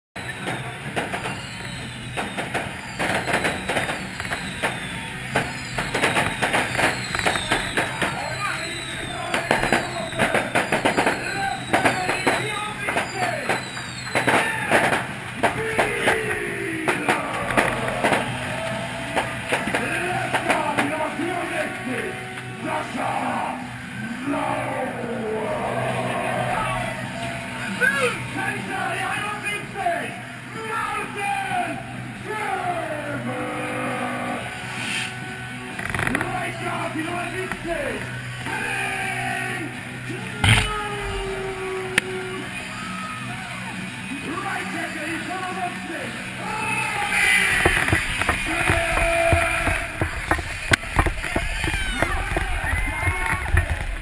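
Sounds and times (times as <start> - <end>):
music over public address: 0.2 - 54.0.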